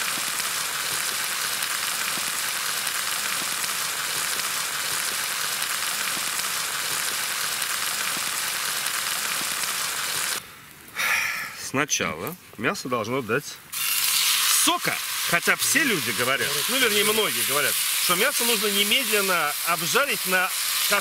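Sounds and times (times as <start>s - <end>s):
meat sizzling in a frying pan: 0.0s - 10.4s, 13.7s - 21.0s.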